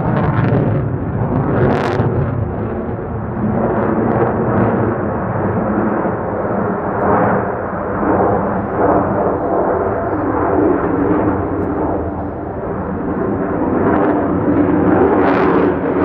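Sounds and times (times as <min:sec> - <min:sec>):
jet engine roaring overhead: 0:00.0 - 0:16.0.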